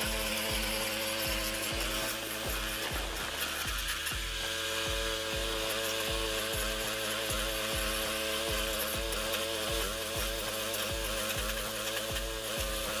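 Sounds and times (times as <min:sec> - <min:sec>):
stump grinder engine running: 0:00.0 - 0:13.0.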